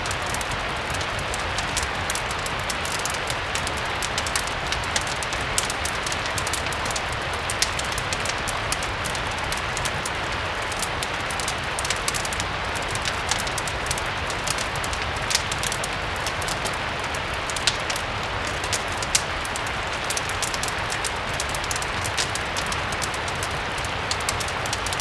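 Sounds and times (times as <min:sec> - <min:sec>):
steady rain hiss: 0:00.0 - 0:25.0
wood fire crackling: 0:00.0 - 0:25.0.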